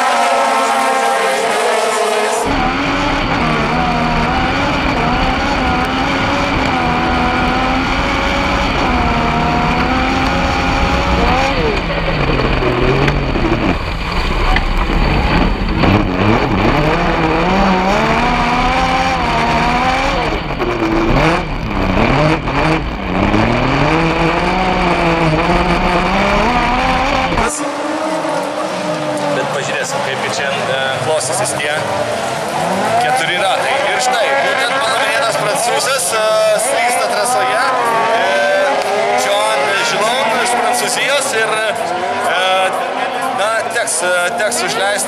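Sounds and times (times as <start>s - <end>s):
motorcycle engine revving: 0.0s - 43.1s.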